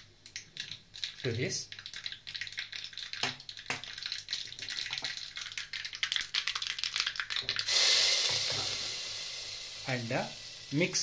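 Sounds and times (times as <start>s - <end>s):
hot oil crackling and spluttering: 0.0s - 11.0s.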